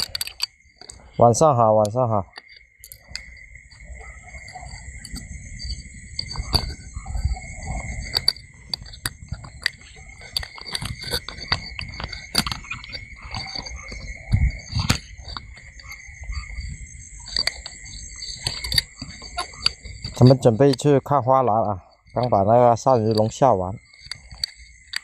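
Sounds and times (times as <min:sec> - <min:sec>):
night insects chirring: 0:00.0 - 0:25.0
sharp clicks and knocks: 0:00.0 - 0:25.0.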